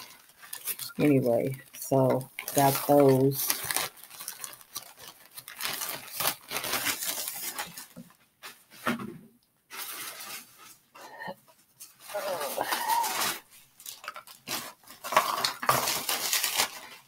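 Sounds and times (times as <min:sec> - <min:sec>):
packaging rustling and crinkling: 0:00.0 - 0:08.9, 0:09.7 - 0:10.9, 0:11.6 - 0:17.0.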